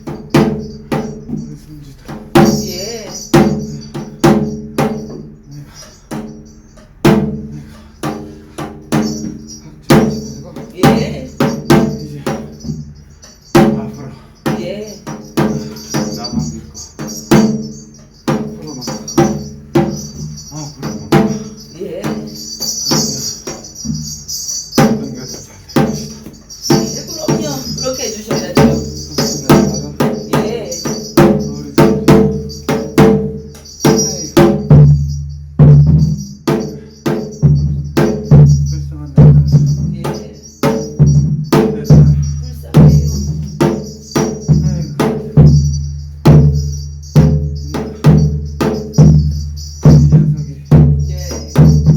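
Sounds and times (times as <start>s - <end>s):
drum strokes in fast rhythm: 0.0s - 51.9s
jingling metal percussion: 0.0s - 51.9s.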